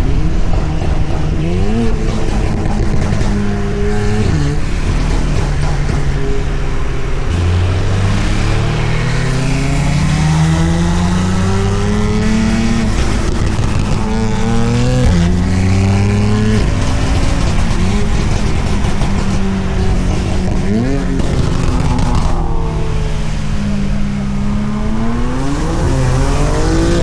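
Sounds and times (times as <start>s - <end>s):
car engine accelerating hard: 0.0s - 27.0s
exhaust crackles and pops: 0.0s - 27.0s.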